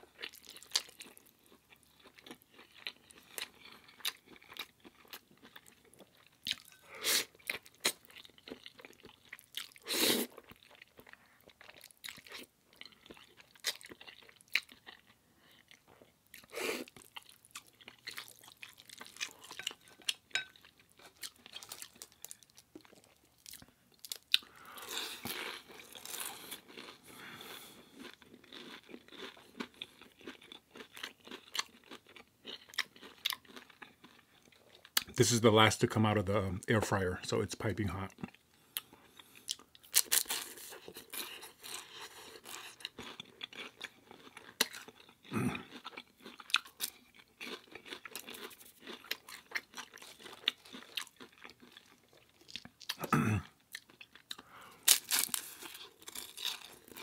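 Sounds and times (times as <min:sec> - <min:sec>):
person chewing crunchy food: 0:00.0 - 0:35.2, 0:37.9 - 0:57.0.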